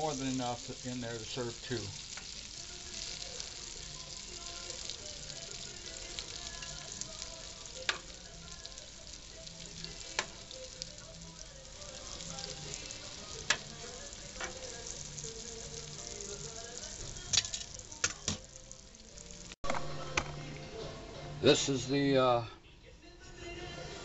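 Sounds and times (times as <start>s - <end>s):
meat sizzling in oil: 0.0s - 19.6s.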